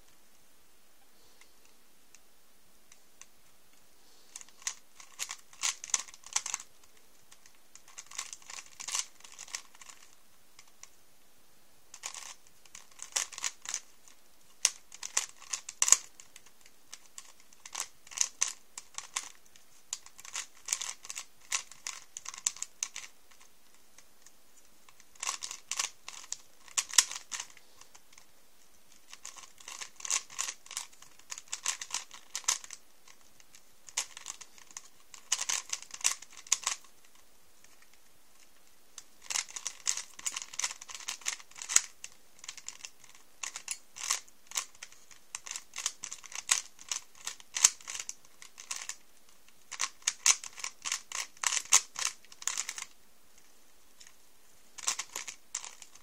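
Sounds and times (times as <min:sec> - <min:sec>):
puzzle cube clicking as turned: 0:04.3 - 0:11.0, 0:11.9 - 0:28.3, 0:28.9 - 0:56.0.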